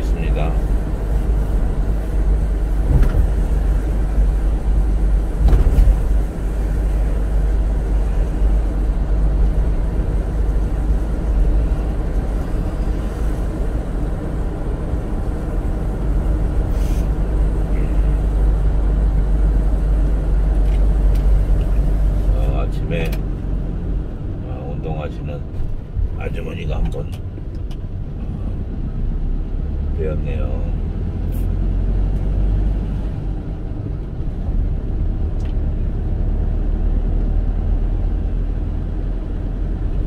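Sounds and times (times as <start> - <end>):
car driving on road rumble: 0.0 - 40.0.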